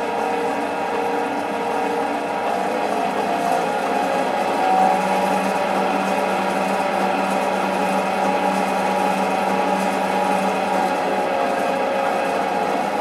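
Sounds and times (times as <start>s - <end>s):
machine hum and whine: 0.0s - 13.0s.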